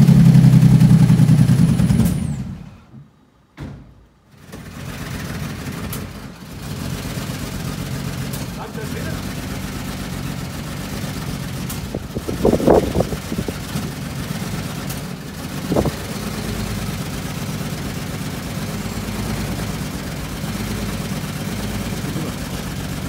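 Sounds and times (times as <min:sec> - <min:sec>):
engine idling: 0:00.0 - 0:02.9, 0:04.3 - 0:23.0
engine clatter: 0:00.0 - 0:03.0, 0:04.3 - 0:23.0.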